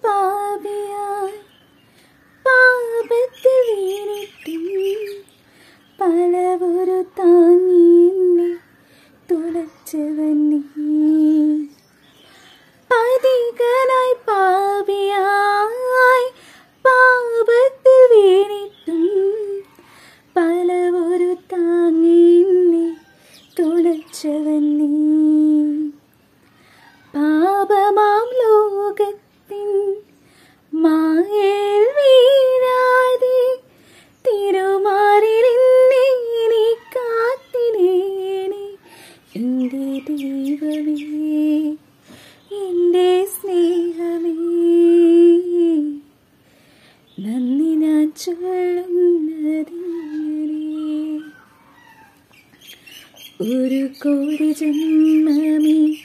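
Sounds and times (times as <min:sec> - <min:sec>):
woman singing slow melody: 0:00.0 - 0:46.2, 0:47.1 - 0:52.2, 0:53.3 - 0:56.0.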